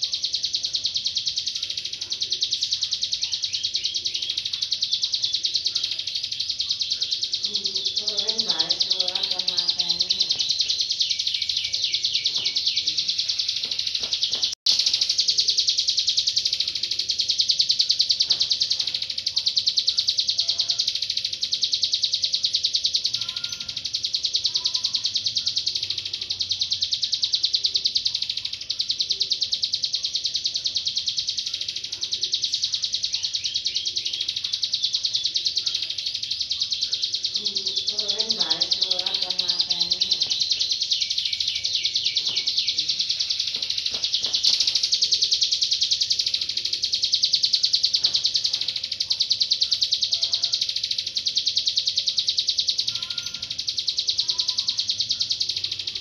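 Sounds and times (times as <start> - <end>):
bird singing a chattering trill: 0.0 - 56.0.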